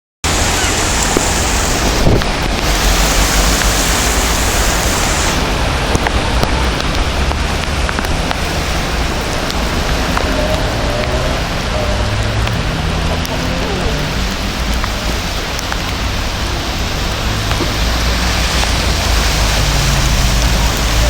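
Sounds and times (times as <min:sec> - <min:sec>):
rain pattering on surfaces: 0:00.2 - 0:21.0.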